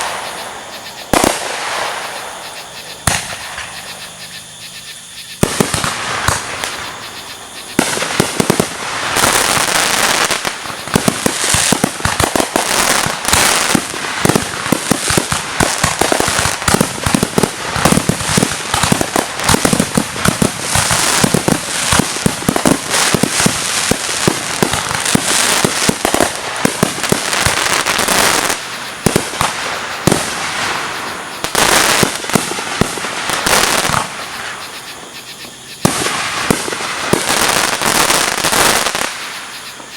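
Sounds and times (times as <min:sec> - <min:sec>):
fireworks banging and crackling: 0:00.0 - 0:04.6, 0:05.4 - 0:39.9.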